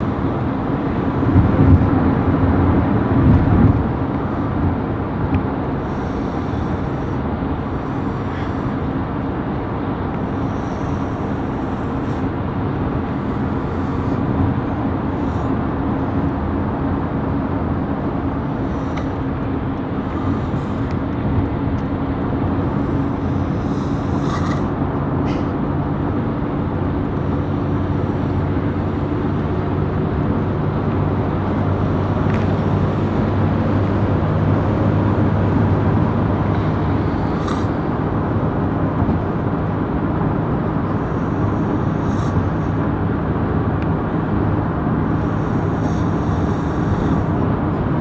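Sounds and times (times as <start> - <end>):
road and engine noise in car: 0.0 - 48.0.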